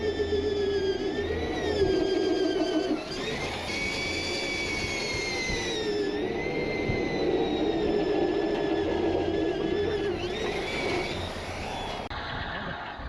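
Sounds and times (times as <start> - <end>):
angle grinder whining: 0.0 - 12.1.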